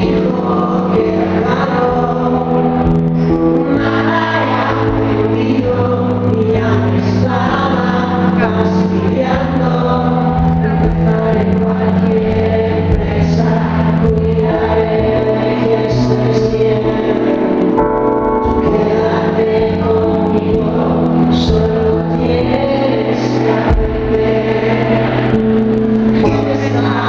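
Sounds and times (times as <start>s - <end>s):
electronic keyboard chords: 0.0s - 27.0s
man singing slow song: 0.0s - 27.0s.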